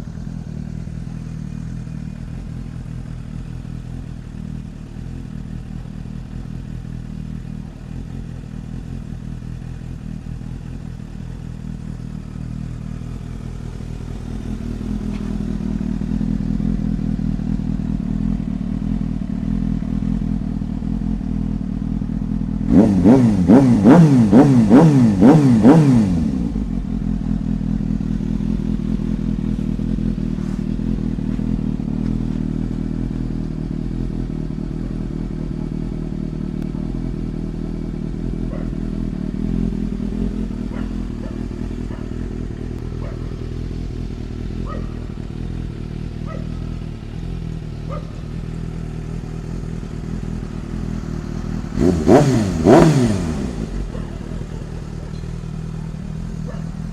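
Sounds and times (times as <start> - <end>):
motorcycle engine revving and idling: 0.0 - 56.9.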